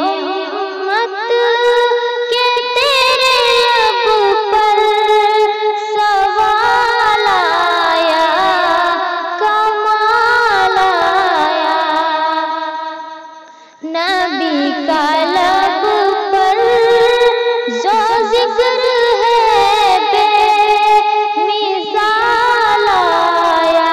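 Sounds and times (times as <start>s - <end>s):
woman singing unaccompanied: 0.0s - 12.9s, 13.7s - 23.9s.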